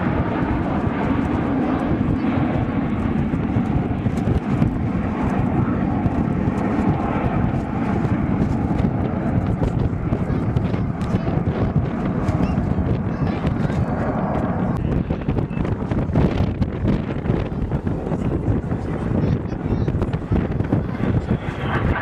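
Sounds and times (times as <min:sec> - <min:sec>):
aircraft engine in flight: 0:00.0 - 0:22.0.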